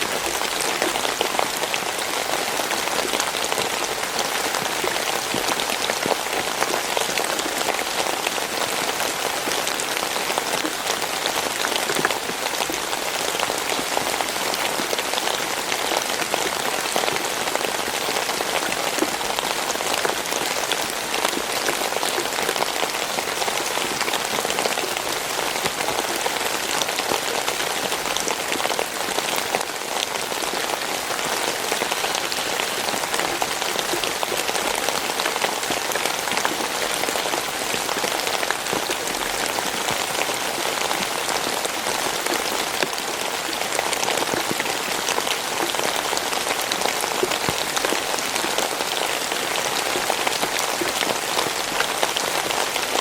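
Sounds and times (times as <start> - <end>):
rain falling on a surface: 0.0 - 53.0.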